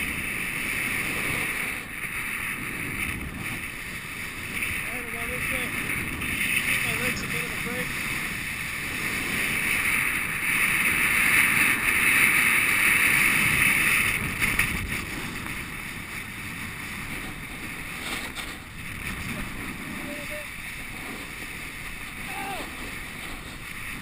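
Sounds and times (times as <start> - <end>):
skis scraping over packed snow: 0.0 - 24.0
wind buffeting the microphone: 0.0 - 24.0.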